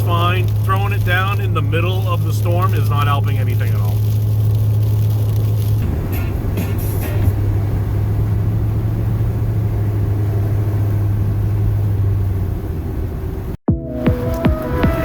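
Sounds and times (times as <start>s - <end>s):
low engine drone: 0.0s - 15.0s
road noise inside a cab: 0.0s - 15.0s.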